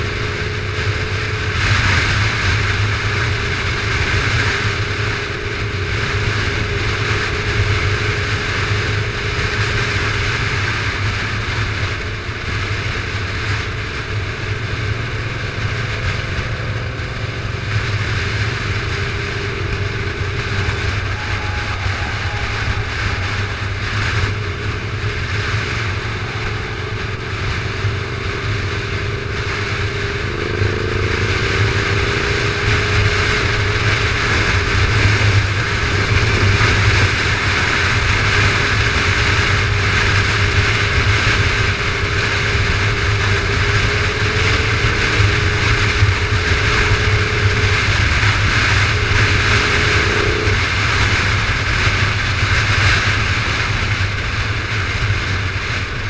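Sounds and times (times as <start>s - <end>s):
motorcycle engine cruising: 0.0s - 56.0s
wind rushing over microphone: 0.0s - 56.0s.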